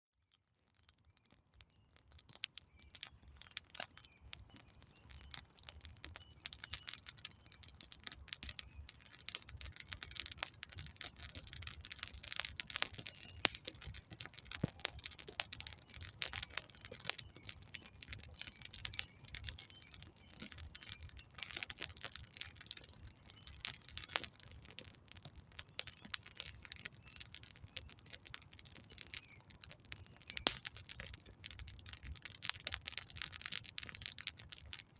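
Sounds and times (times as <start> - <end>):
campfire crackling: 0.2 - 34.9.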